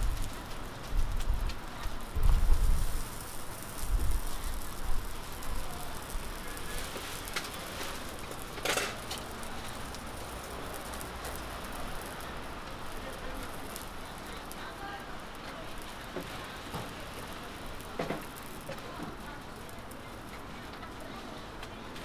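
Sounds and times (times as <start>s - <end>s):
food sizzling on griddle: 0.0s - 22.0s.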